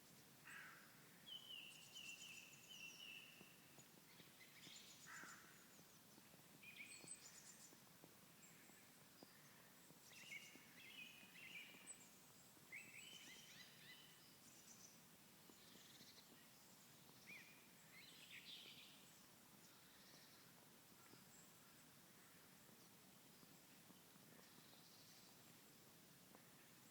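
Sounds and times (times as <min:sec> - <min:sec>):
songbirds chirping: 0:00.0 - 0:26.9.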